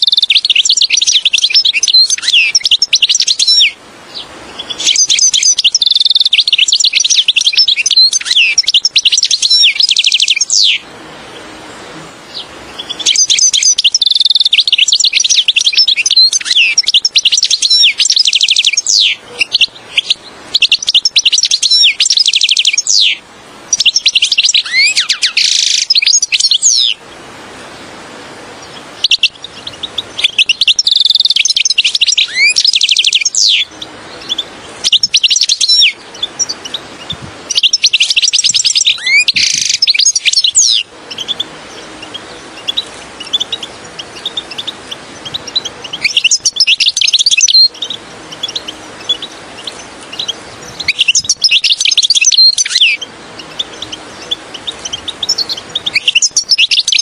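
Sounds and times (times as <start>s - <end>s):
bird twittering chirps and trills: 0.0s - 57.0s
steady hiss: 0.0s - 57.0s.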